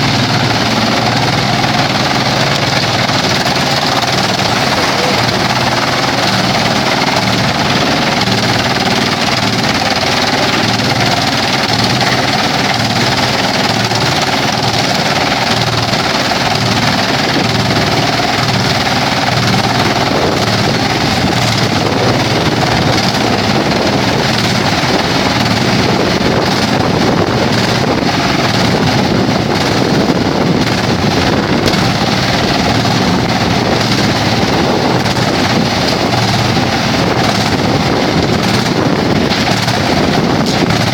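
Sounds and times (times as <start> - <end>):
wood chipper running: 0.0 - 40.9.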